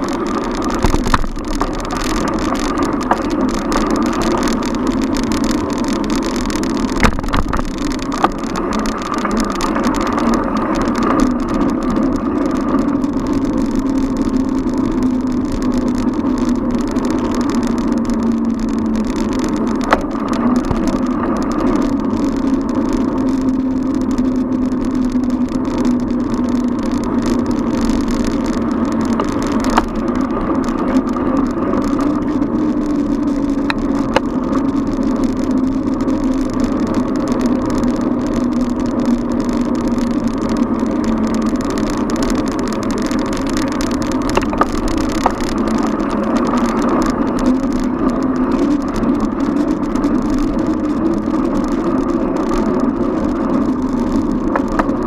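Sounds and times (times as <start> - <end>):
sharp clicks: 0.0 - 55.0
wavering hum: 0.0 - 55.0.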